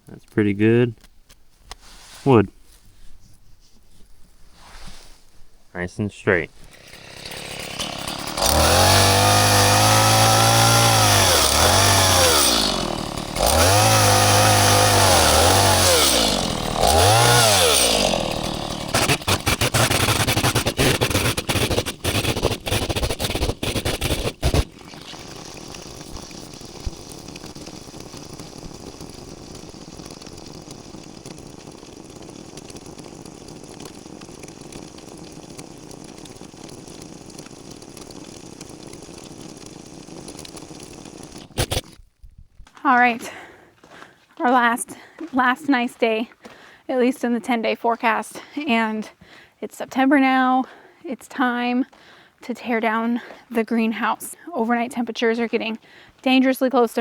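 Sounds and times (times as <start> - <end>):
chainsaw cutting wood: 6.4 - 57.0.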